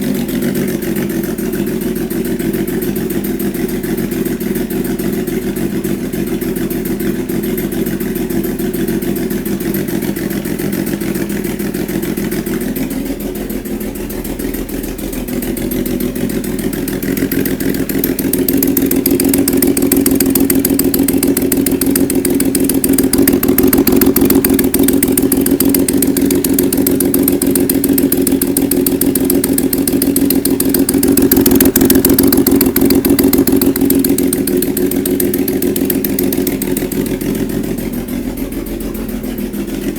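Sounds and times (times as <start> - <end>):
engine tapping noise: 0.0 - 39.9
motorcycle engine running: 0.0 - 39.9.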